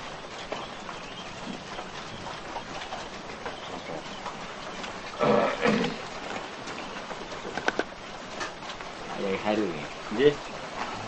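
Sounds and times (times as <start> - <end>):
quail chirping and calling: 0.0 - 5.2, 5.9 - 10.8.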